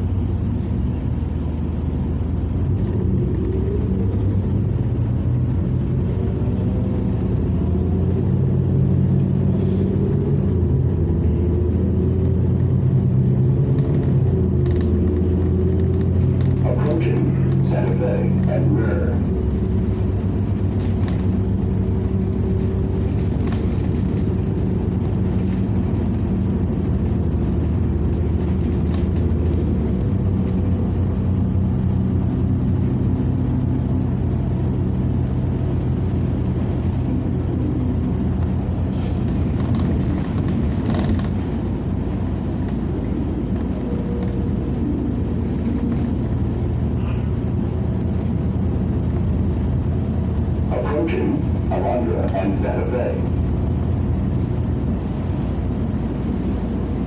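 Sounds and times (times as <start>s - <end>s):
bus engine drone: 0.0s - 57.0s
road rumble: 0.0s - 57.0s.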